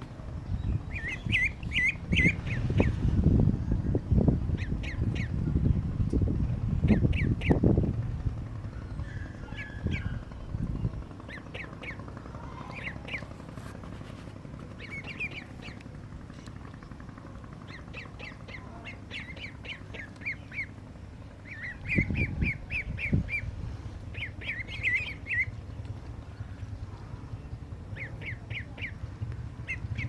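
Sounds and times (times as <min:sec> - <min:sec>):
steady low rumble: 0:00.0 - 0:30.0
ducklings peeping: 0:00.6 - 0:08.0, 0:08.6 - 0:13.9, 0:14.6 - 0:16.7, 0:17.6 - 0:30.0.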